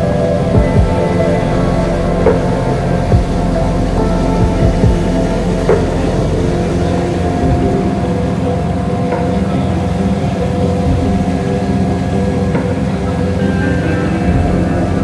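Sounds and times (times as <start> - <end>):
ferry engine drone: 0.0 - 15.0.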